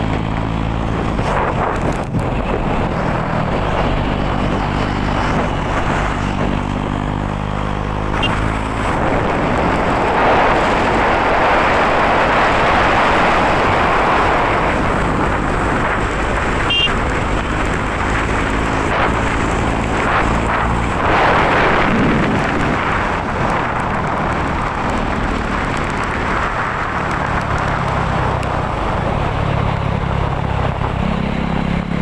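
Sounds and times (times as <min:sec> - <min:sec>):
wind on microphone: 0:00.0 - 0:16.6, 0:17.2 - 0:31.1
motorcycle engine running: 0:00.0 - 0:32.0.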